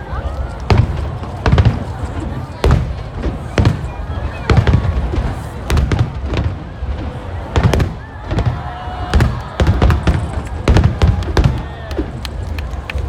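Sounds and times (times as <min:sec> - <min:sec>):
fireworks bursting with booms: 0:00.0 - 0:13.0.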